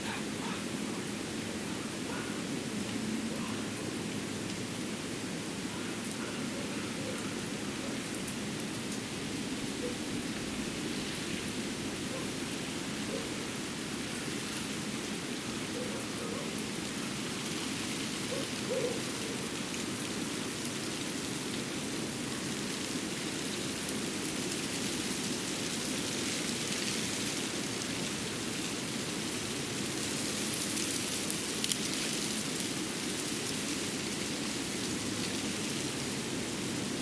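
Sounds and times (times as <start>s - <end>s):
light rain-like patter: 0.0s - 37.0s
steady forest hiss: 0.0s - 37.0s.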